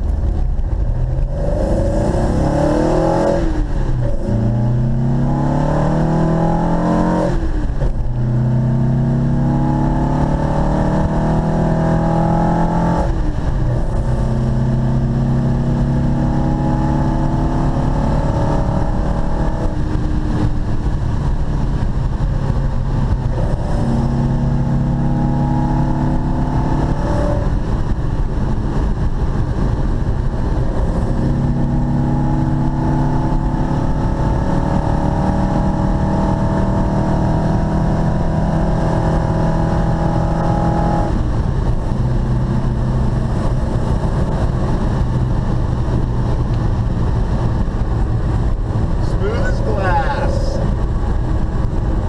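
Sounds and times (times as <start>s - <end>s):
car engine revving through gears: 0.0s - 52.0s.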